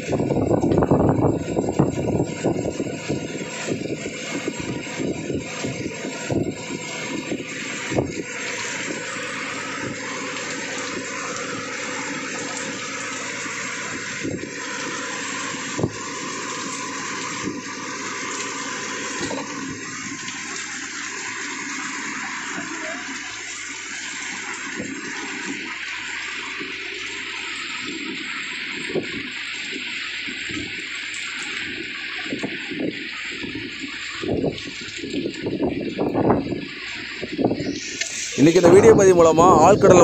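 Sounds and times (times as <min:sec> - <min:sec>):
drips and knocks on boat: 0:00.0 - 0:40.0
heavy rain on water: 0:00.0 - 0:40.0.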